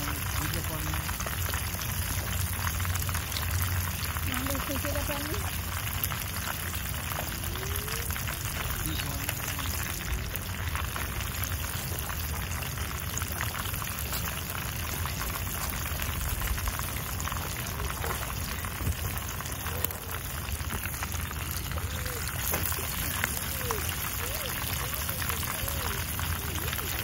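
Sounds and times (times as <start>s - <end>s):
fish frying in hot oil: 0.0s - 27.0s.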